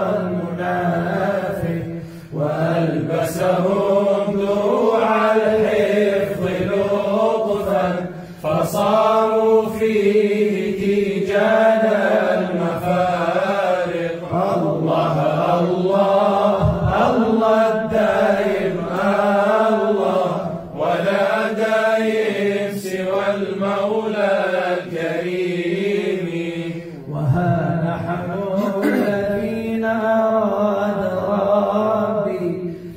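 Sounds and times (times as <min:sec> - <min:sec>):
devotional vocal chanting: 0:00.0 - 0:32.9.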